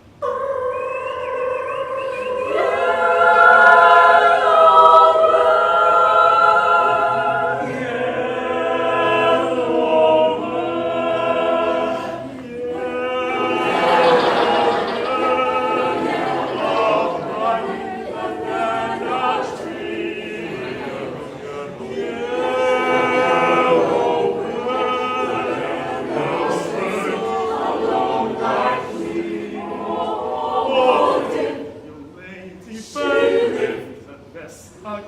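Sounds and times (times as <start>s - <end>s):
choir singing a cappella: 0.0s - 35.0s.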